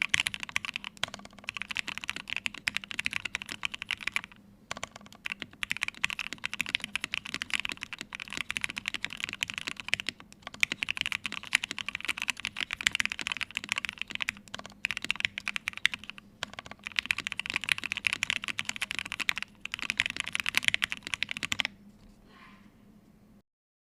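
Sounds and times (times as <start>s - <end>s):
fast mechanical keyboard typing: 0.0s - 21.7s.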